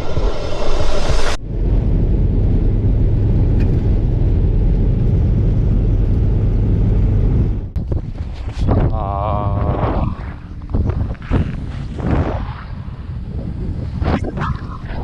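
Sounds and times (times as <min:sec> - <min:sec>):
car driving rumble: 0:01.3 - 0:14.0.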